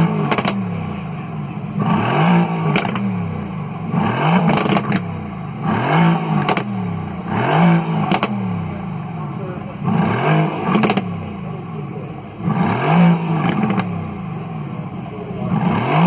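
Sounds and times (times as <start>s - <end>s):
exhaust pops and crackles: 0.0s - 5.7s, 6.3s - 15.9s
car engine revving: 0.0s - 16.0s.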